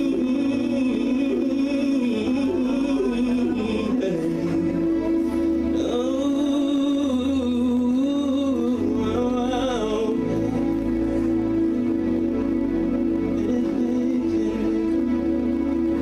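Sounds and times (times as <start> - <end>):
person singing wordless melody: 0.0 - 16.0
slow worship music: 0.0 - 16.0.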